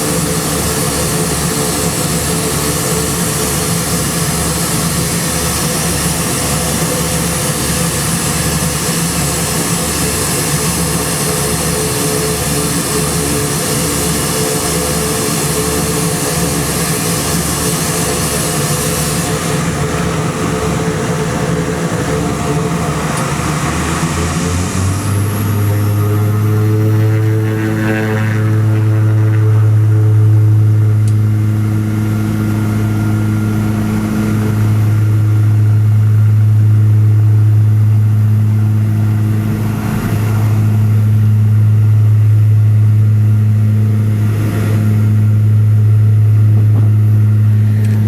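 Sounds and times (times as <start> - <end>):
strong low hum: 0.0 - 48.0
turboprop engines running: 0.0 - 48.0.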